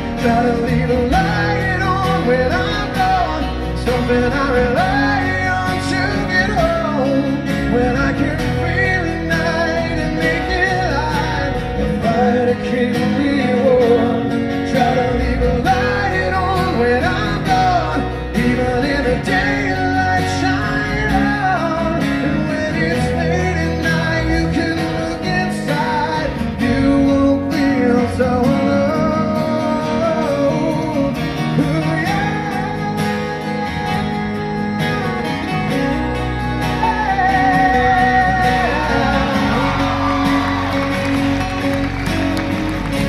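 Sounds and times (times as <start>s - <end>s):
man singing: 0.0s - 41.6s
bass guitar: 0.0s - 43.0s
strummed acoustic guitars: 0.0s - 43.0s.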